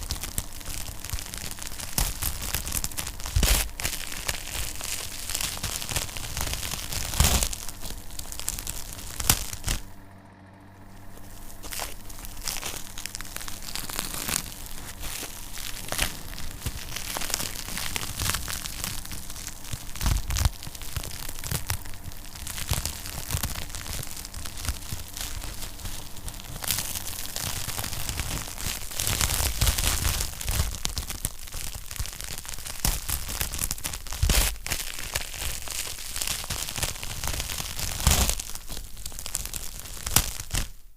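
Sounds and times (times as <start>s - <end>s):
loud pops from fire: 0.0s - 9.9s, 11.0s - 40.9s
wood fire crackling: 0.0s - 40.9s.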